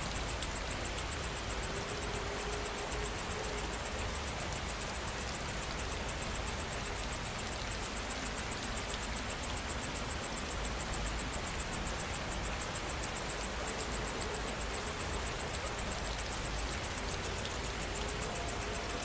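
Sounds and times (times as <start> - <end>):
insect chirping: 0.0 - 19.0
rain falling: 0.0 - 19.0.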